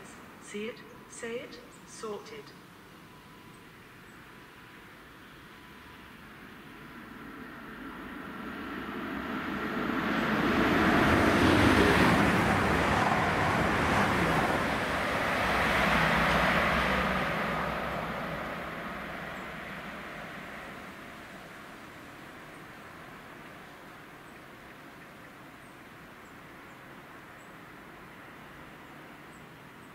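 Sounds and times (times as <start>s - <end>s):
diesel train passing: 0.0s - 29.9s.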